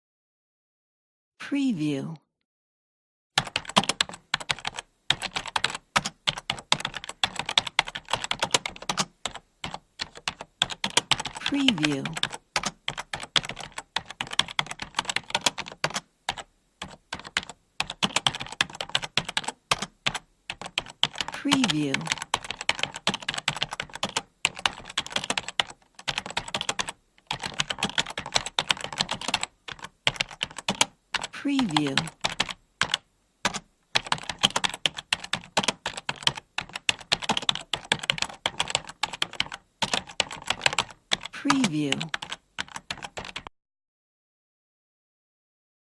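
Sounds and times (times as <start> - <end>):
fast typing on keyboard: 3.4 - 43.5.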